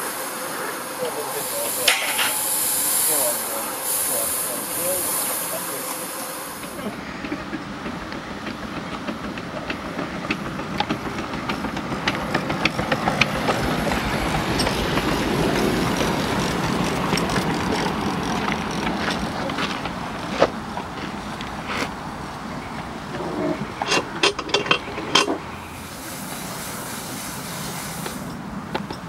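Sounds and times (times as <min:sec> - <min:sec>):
miniature train running: 0:00.0 - 0:29.0
wheels clicking over rail joints: 0:00.8 - 0:29.0.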